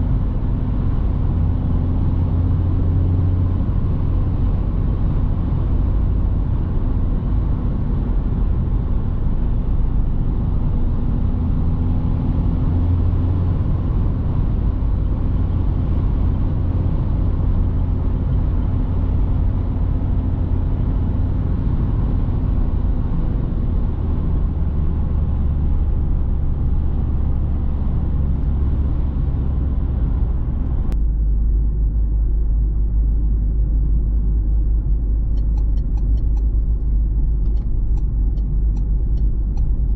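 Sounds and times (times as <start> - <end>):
diesel car engine running: 0.0 - 39.9
tyre and road noise: 0.0 - 39.9.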